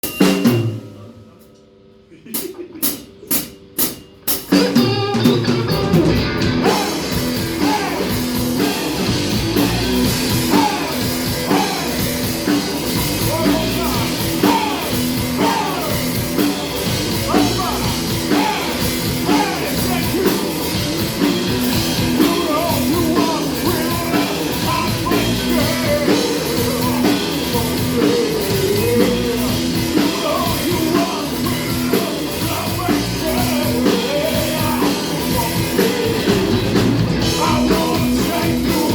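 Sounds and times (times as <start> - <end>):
live rock band with singer: 2.3 - 38.9.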